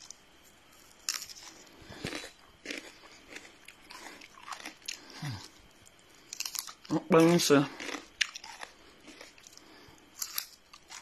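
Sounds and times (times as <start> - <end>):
person chewing cucumber: 0.8 - 11.0.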